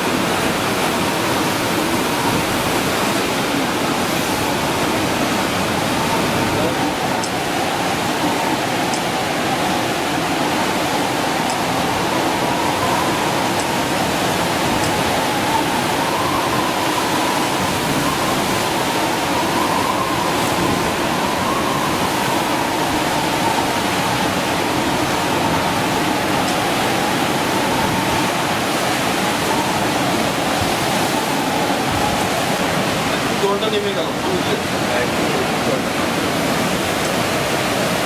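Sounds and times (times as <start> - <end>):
rushing water: 0.0 - 38.0.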